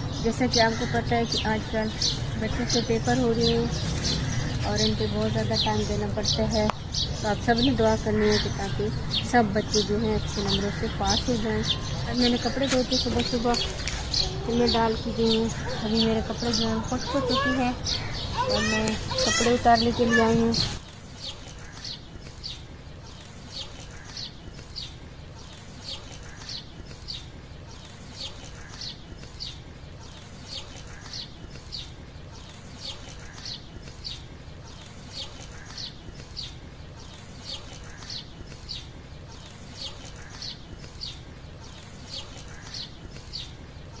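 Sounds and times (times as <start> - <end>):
bird chirping: 0.0 - 44.0
low background noise: 0.0 - 44.0.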